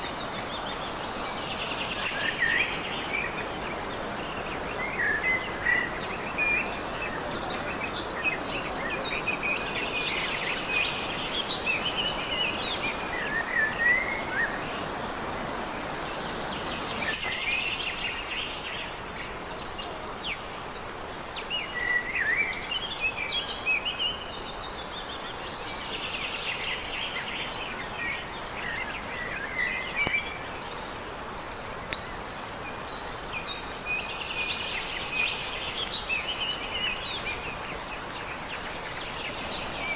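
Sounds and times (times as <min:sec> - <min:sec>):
songbird singing: 0:00.0 - 0:39.9
stream rushing: 0:00.0 - 0:39.9.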